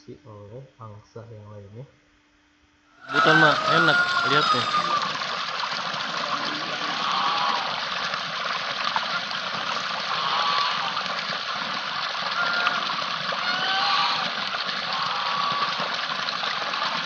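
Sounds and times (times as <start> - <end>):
geese slurping wet food: 3.0 - 17.0.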